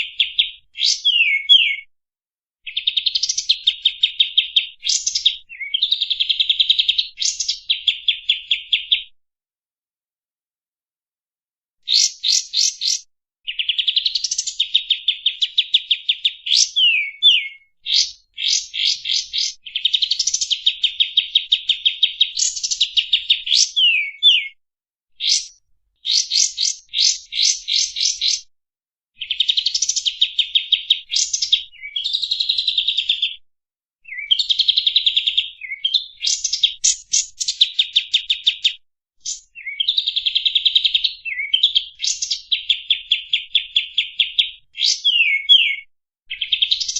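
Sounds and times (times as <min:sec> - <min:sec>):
bird singing fast trills: 0:00.0 - 0:01.9, 0:02.7 - 0:09.1, 0:11.8 - 0:24.6, 0:25.2 - 0:28.5, 0:29.2 - 0:33.4, 0:34.1 - 0:46.9.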